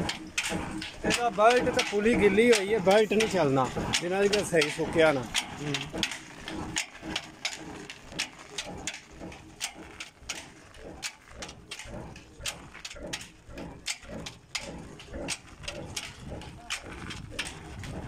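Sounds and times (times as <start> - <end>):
diesel engine thumping: 0.0 - 18.0.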